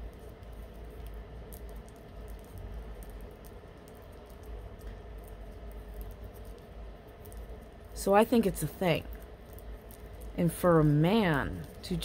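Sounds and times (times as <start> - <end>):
faint scattered ticks: 0.0 - 12.0.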